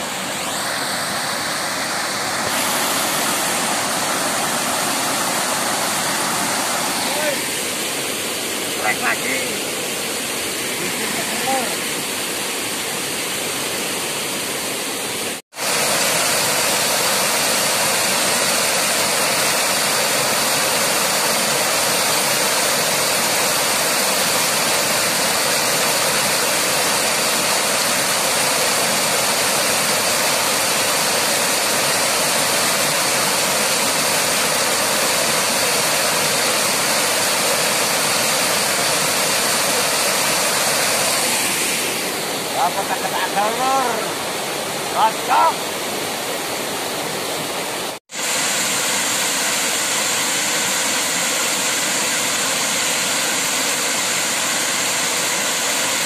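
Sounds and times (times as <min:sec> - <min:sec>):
waterfall rushing into a pool: 0:00.0 - 0:56.0.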